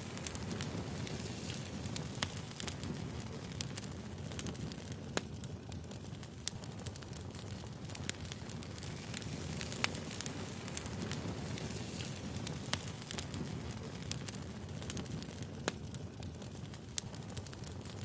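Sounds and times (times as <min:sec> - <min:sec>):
firewood crackling: 0:00.0 - 0:18.0
hiss of flame: 0:00.0 - 0:18.0.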